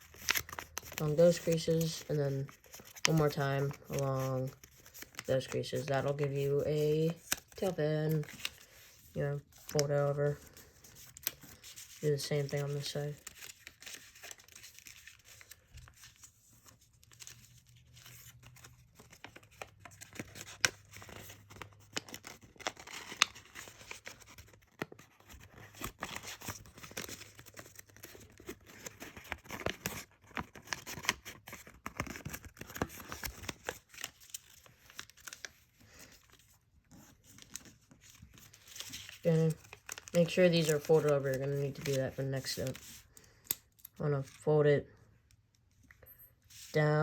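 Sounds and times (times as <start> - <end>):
paper being folded and creased: 0.0 - 44.4, 46.5 - 46.8.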